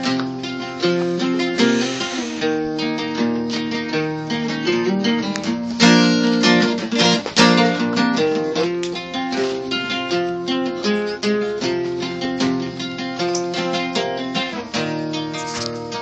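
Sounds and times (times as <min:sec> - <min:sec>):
two acoustic guitars playing: 0:00.0 - 0:16.0.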